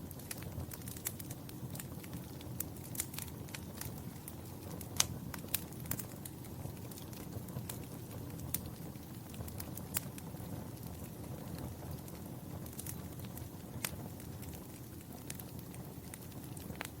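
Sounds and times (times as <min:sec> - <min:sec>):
fire crackling and popping: 0:00.0 - 0:17.0
wood fire flames rushing: 0:00.0 - 0:17.0.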